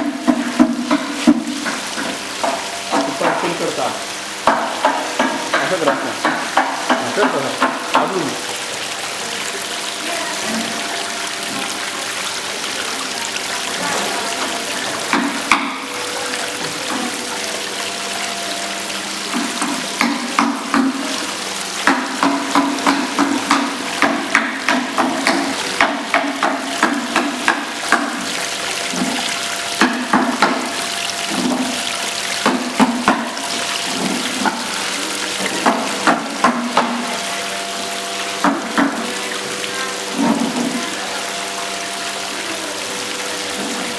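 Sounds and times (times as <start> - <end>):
fountain water rushing: 0.0 - 43.9
sharp splashes and clicks: 0.1 - 42.2.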